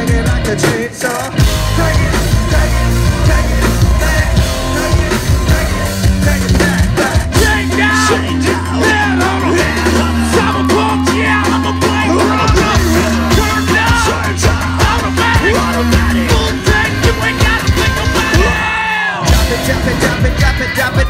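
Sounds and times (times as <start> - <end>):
steady low bass line: 0.0 - 18.6, 19.3 - 21.0
live rock band playing: 0.0 - 21.0.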